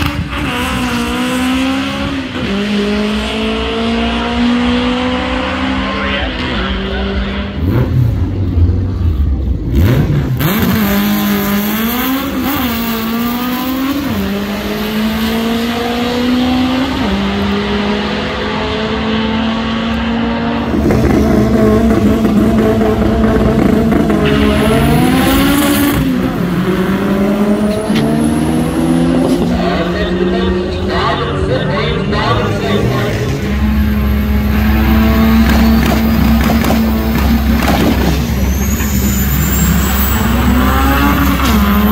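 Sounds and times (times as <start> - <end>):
drag car engine revving: 0.0 - 41.9.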